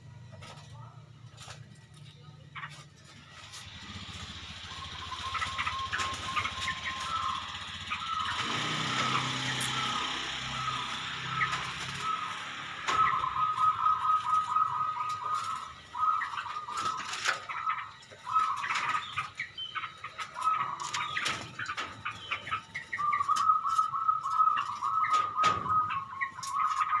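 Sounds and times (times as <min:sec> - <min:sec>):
birds chattering: 0:00.0 - 0:27.0.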